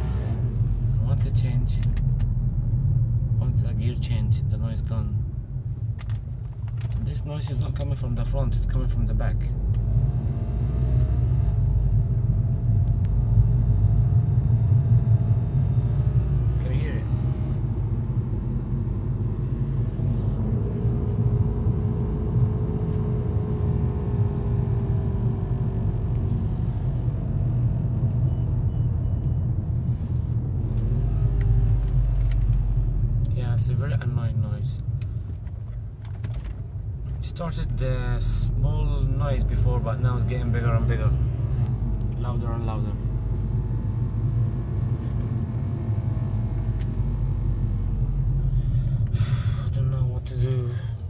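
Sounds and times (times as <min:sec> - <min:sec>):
car interior low rumble: 0:00.0 - 0:51.0.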